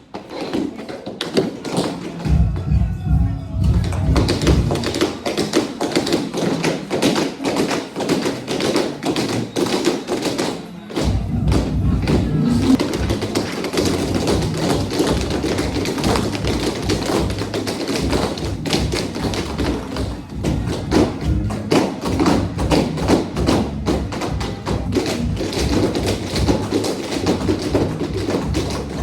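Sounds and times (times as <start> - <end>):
music playing: 2.1 - 29.0
tap shoes striking floor: 3.7 - 29.0.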